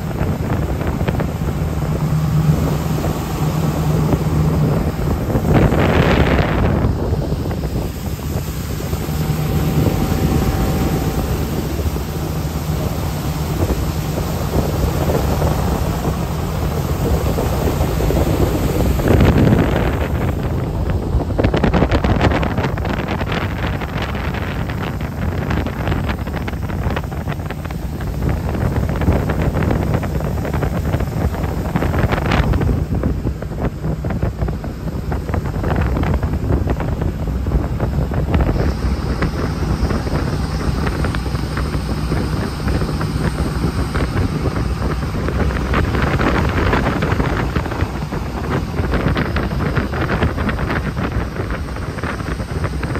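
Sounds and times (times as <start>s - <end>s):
boat engine drone: 0.0s - 52.9s
rushing water: 0.0s - 52.9s
wind buffeting microphone: 0.0s - 52.9s.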